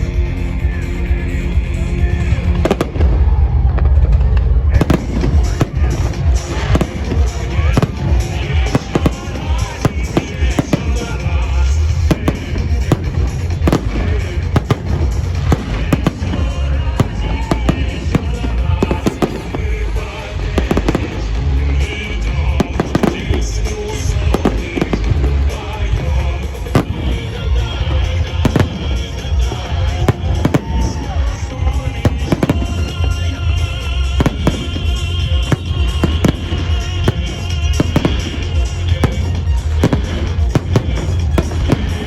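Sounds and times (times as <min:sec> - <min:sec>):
deep rumble: 0:00.0 - 0:42.0
music playing: 0:00.0 - 0:42.0.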